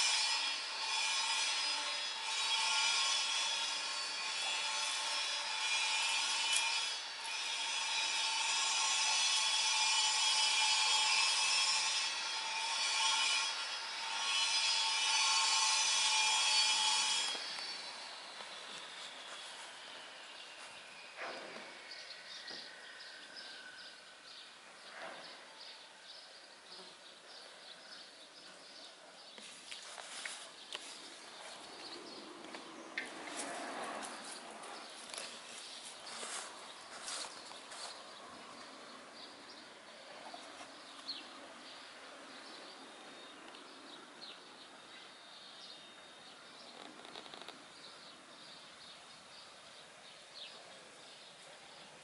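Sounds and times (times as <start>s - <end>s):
steady outdoor hiss: 0.0s - 52.0s.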